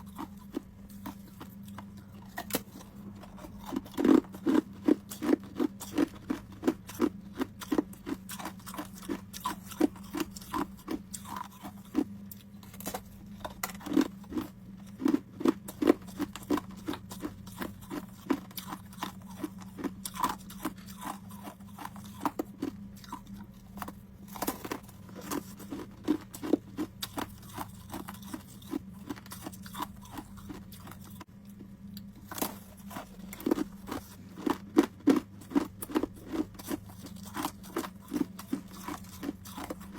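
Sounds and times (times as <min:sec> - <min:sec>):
ice cubes being chewed: 0:00.0 - 0:39.9
steady low hum: 0:00.0 - 0:39.9.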